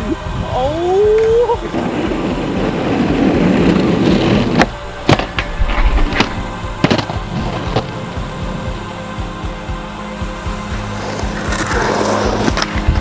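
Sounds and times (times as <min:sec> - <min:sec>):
music: 0:00.0 - 0:13.0
rough rumbling noise: 0:00.0 - 0:13.0.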